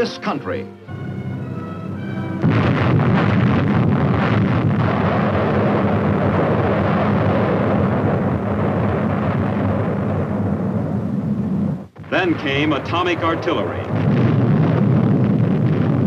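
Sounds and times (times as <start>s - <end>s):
explosion blast: 2.0s - 16.0s.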